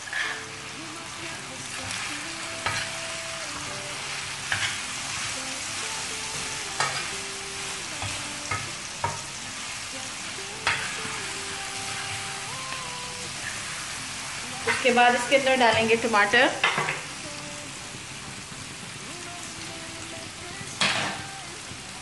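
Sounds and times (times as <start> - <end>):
chicken and onion sizzling in oil: 0.0 - 22.0.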